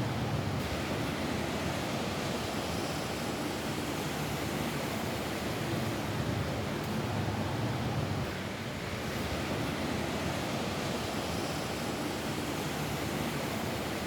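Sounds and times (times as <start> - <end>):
rain falling on a roof: 0.0 - 14.0.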